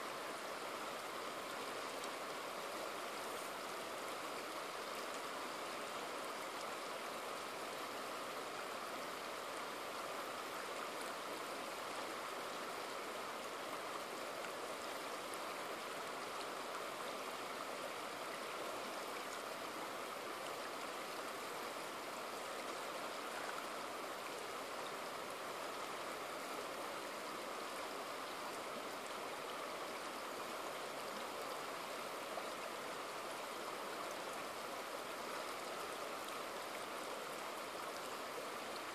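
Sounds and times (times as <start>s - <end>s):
river water flowing over boulders: 0.0s - 38.9s.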